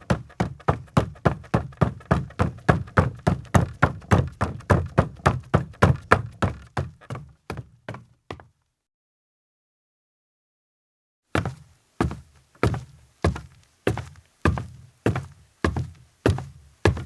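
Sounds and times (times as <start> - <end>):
footsteps on wooden deck: 0.0 - 8.5, 11.4 - 17.0.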